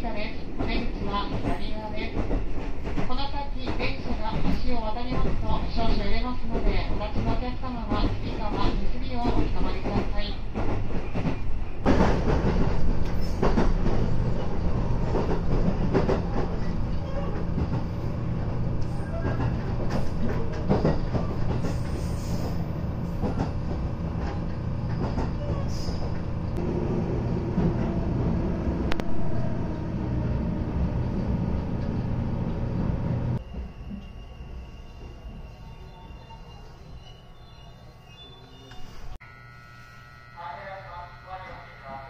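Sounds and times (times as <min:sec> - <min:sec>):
train wheels rumbling on rail: 0:00.0 - 0:34.2.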